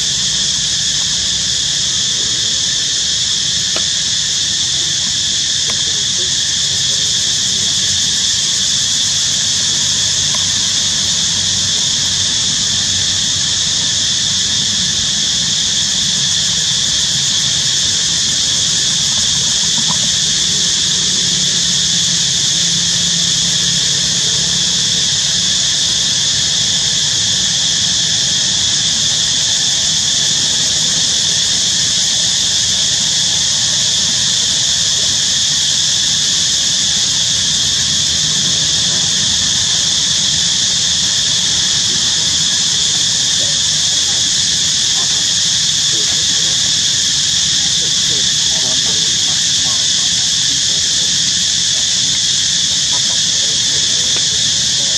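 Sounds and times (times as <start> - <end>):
insect chorus droning: 0.0 - 54.9.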